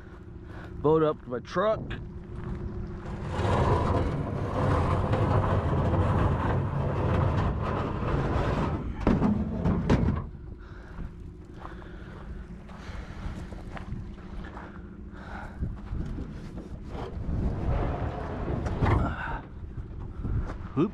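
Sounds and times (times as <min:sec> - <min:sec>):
boat scraping over ground: 0:02.3 - 0:10.8, 0:11.6 - 0:20.4.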